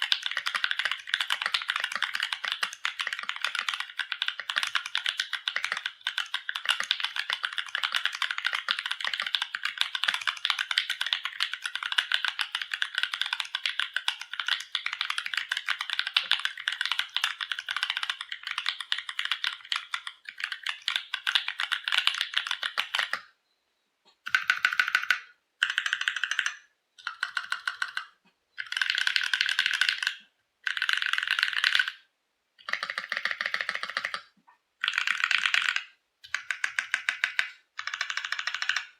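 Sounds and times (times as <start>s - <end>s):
mechanical keyboard typing: 0.0s - 23.3s, 24.2s - 38.9s.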